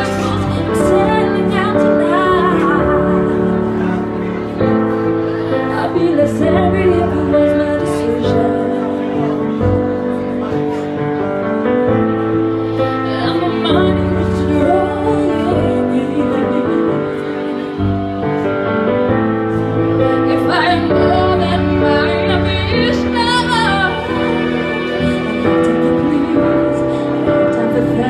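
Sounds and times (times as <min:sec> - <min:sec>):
woman singing into microphone: 0:00.0 - 0:10.9, 0:12.6 - 0:18.1, 0:19.5 - 0:28.0
instrumental accompaniment: 0:00.0 - 0:28.0.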